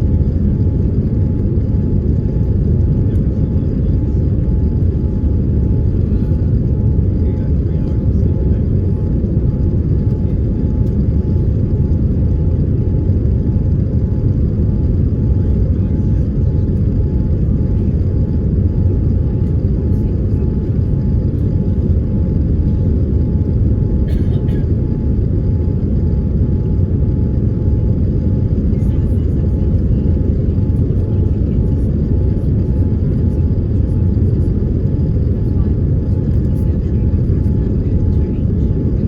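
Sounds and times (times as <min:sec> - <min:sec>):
jet engine cabin rumble: 0:00.0 - 0:39.0.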